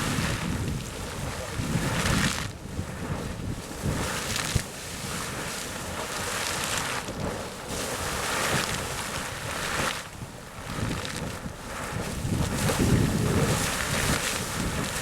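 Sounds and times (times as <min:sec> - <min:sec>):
geyser water splashing: 0:00.0 - 0:15.0
wind buffeting microphone: 0:00.0 - 0:15.0.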